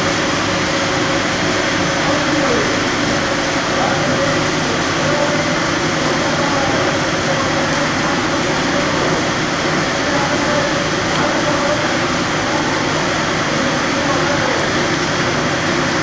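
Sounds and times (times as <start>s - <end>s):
extrusion machine running: 0.0s - 16.0s
faint machine hum: 0.0s - 16.0s.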